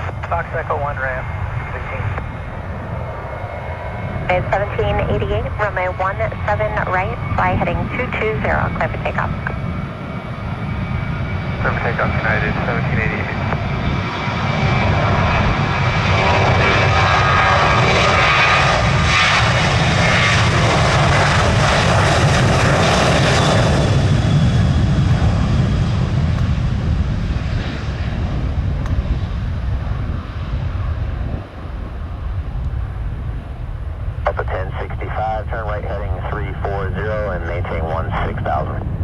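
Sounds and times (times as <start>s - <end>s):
jet engines roaring: 0.0s - 39.0s
low rumble: 0.0s - 39.0s.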